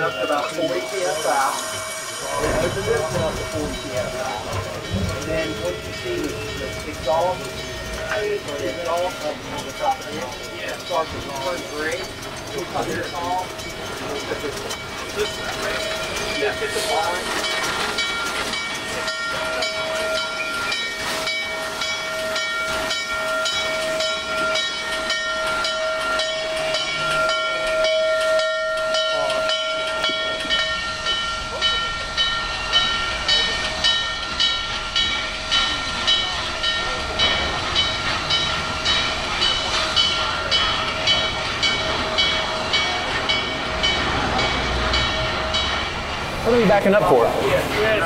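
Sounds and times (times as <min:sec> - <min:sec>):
steam hissing: 0:00.0 - 0:48.0
steam locomotive exhaust beats: 0:00.0 - 0:48.0.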